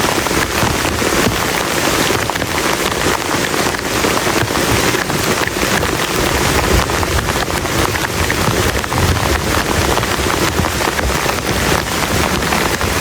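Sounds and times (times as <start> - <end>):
heavy rain on plastic tarp: 0.0 - 13.0.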